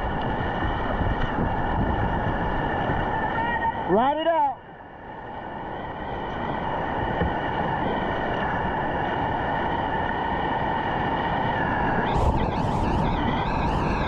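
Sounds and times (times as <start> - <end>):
whitewater rapids rushing: 0.0 - 4.4, 5.1 - 14.0.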